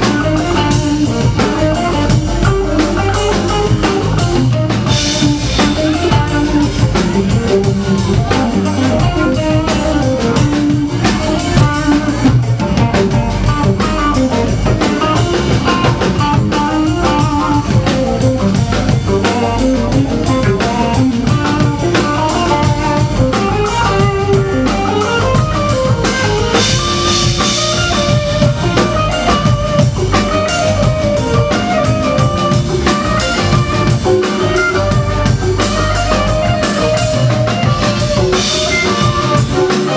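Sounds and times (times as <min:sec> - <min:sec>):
drum kit: 0:00.0 - 0:39.9
electric guitars: 0:00.0 - 0:39.9
keyboards: 0:00.0 - 0:39.9.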